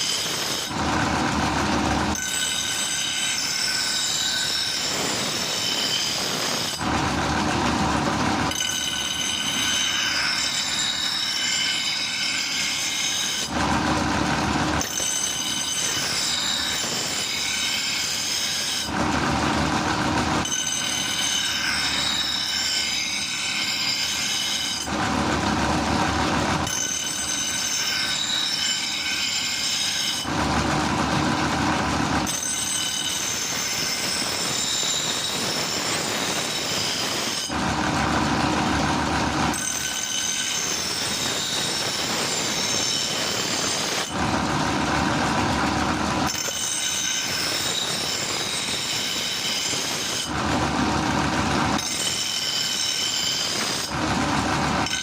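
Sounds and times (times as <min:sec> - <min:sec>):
power grinder squealing on steel: 0:00.0 - 0:55.0.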